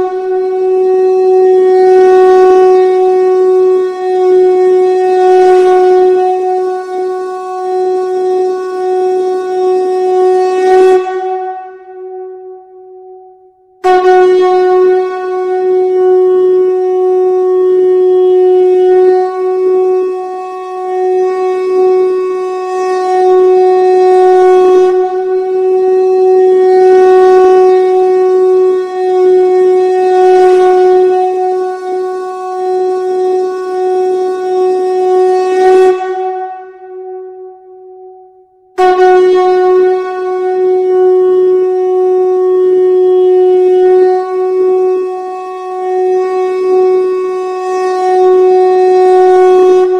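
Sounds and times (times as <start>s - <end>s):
conch shell blown: 0.0s - 49.9s.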